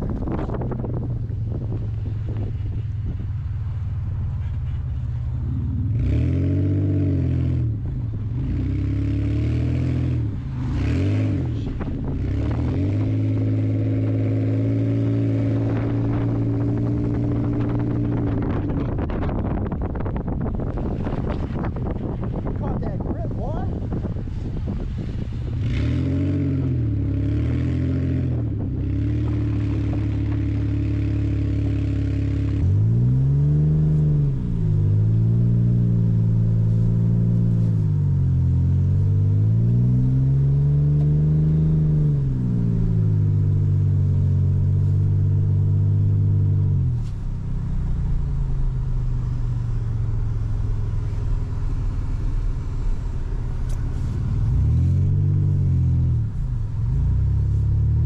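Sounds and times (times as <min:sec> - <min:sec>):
wind noise on microphone: 0:00.0 - 0:05.3, 0:09.7 - 0:58.0
truck engine revving: 0:04.4 - 0:58.0.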